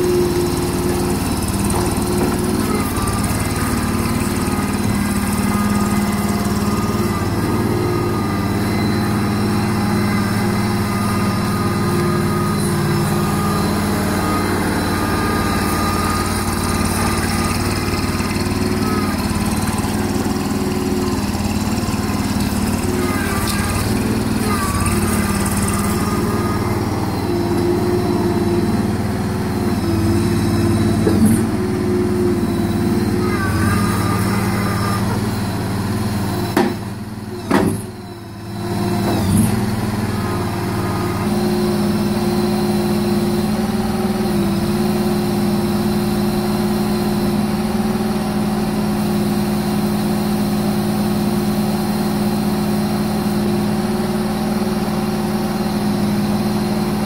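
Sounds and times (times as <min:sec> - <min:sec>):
short whines: 0:00.0 - 0:48.0
loader engine running: 0:00.0 - 0:57.0.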